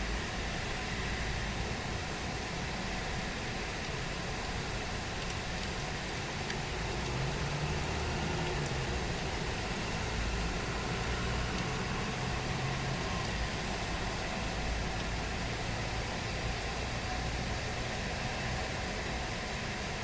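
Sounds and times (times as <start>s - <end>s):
heavy rain: 0.0s - 20.0s
low engine hum: 0.0s - 20.0s.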